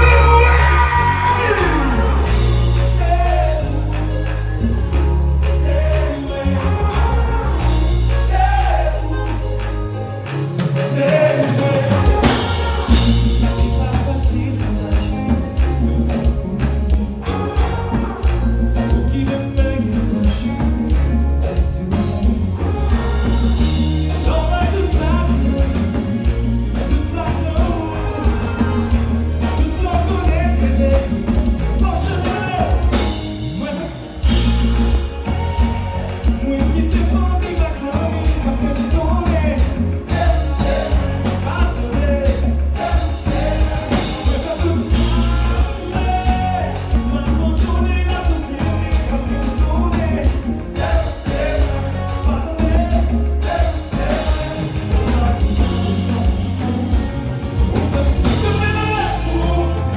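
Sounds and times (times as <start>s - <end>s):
lead singer: 0.0s - 59.9s
live band playing: 0.0s - 59.9s.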